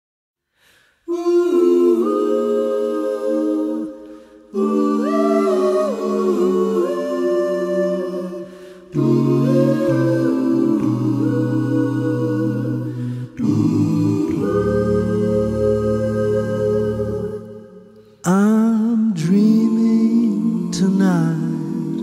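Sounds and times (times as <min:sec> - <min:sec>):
a cappella vocal harmony singing: 0:00.6 - 0:22.0.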